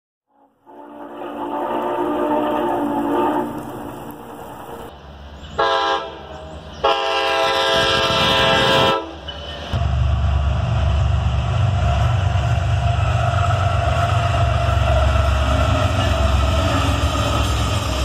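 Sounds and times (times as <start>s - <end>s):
passing train rumble: 0.4s - 18.0s.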